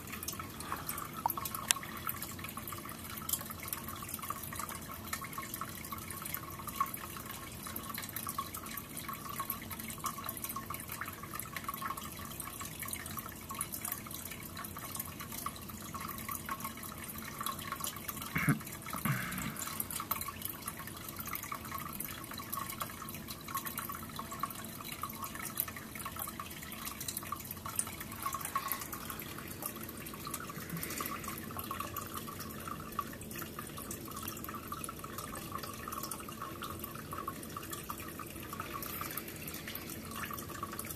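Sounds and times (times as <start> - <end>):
small water drips crackling: 0.0 - 40.9
water trickling into aquarium: 0.0 - 40.9.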